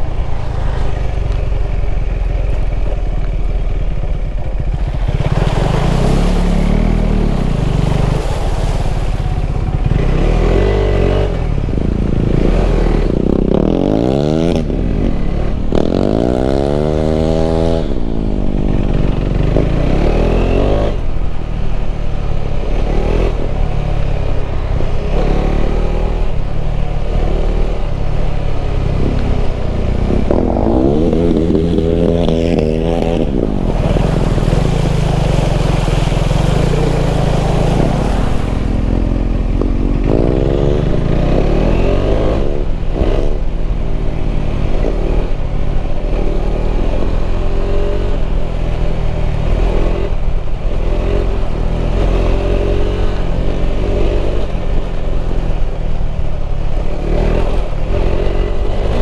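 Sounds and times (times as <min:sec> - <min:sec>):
motorcycle engine accelerating: 0:00.0 - 0:21.4, 0:22.6 - 0:59.0.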